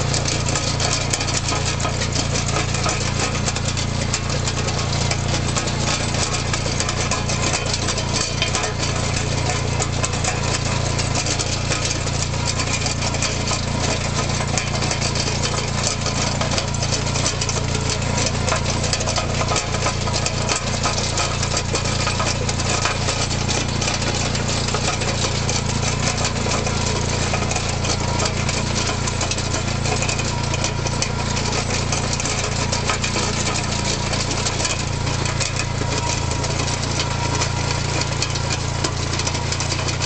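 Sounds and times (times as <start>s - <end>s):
rapid mechanical clatter: 0.0s - 40.0s
tractor engine running under load: 0.0s - 40.0s.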